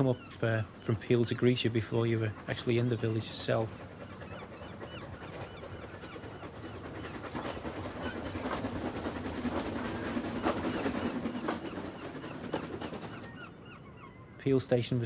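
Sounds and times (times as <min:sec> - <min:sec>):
steam train running past: 0:00.0 - 0:13.4
birds calling: 0:00.0 - 0:15.0.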